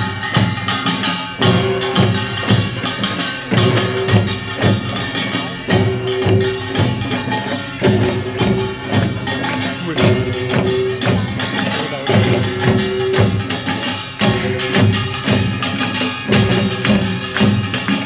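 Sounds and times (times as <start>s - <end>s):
deep gong ringing: 0.0s - 17.8s
drum beats: 0.0s - 18.0s
small gongs clanging: 0.0s - 18.0s.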